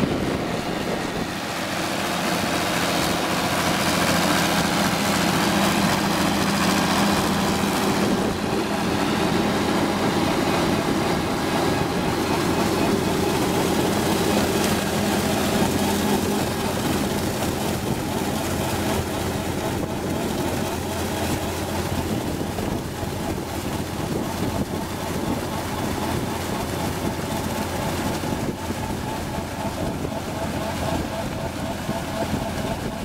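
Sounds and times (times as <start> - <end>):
diesel engine running under load: 0.0 - 33.0
ditcher head churning wet peat: 0.2 - 33.0.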